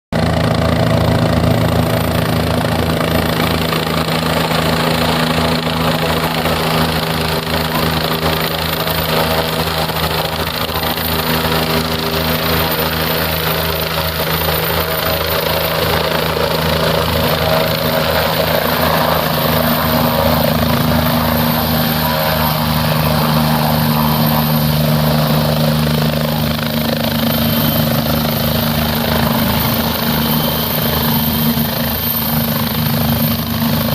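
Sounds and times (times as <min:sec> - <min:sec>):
helicopter rotor beating: 0:00.2 - 0:33.9.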